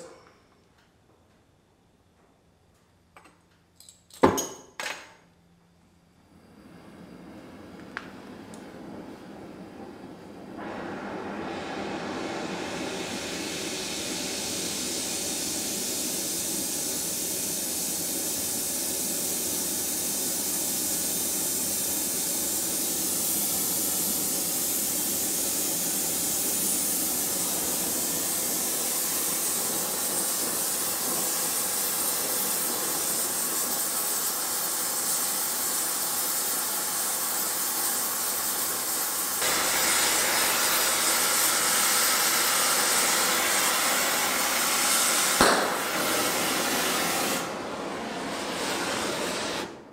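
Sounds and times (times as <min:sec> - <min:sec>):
torch flame hissing: 0:09.7 - 0:49.9.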